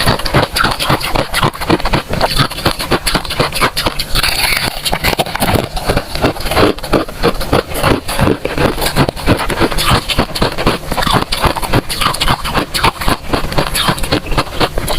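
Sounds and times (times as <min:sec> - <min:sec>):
frost crunching: 0:00.0 - 0:14.9.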